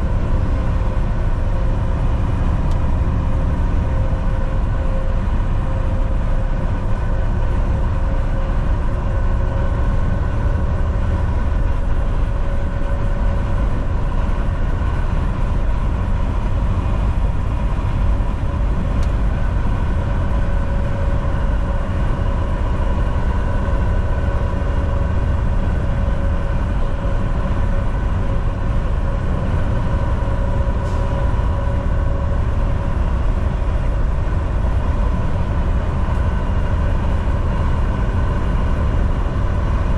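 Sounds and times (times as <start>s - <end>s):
constant whine: 0.0s - 39.9s
road rumble: 0.0s - 39.9s
truck engine drone: 0.0s - 39.9s.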